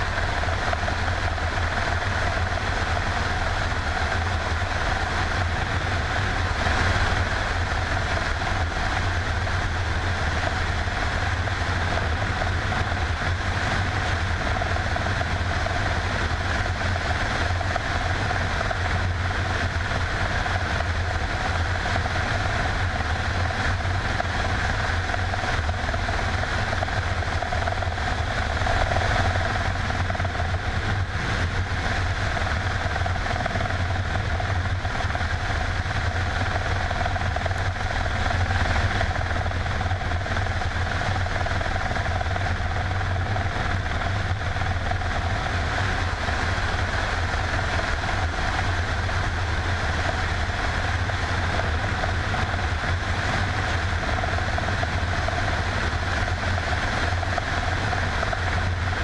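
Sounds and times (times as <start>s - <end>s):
helicopter engines and rotor drone: 0.0s - 59.0s
high turbine whine: 0.0s - 59.0s.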